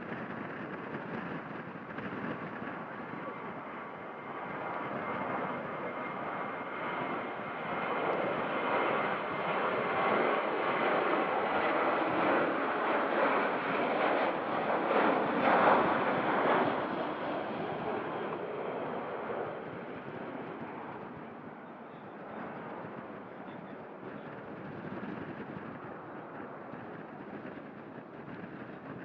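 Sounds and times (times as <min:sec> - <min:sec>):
airliner engines passing: 0:00.0 - 0:29.0.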